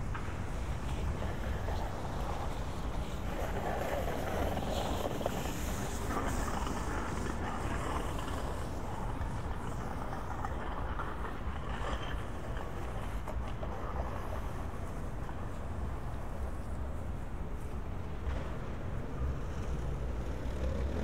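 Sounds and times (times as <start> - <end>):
low rumble of city noise: 0.0 - 21.0
traffic passing: 0.0 - 21.0.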